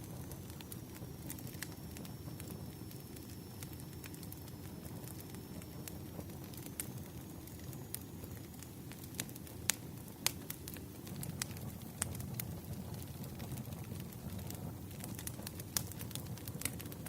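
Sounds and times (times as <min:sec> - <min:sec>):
campfire popping and snapping: 0:00.0 - 0:17.0
fire rumbling: 0:00.0 - 0:17.0.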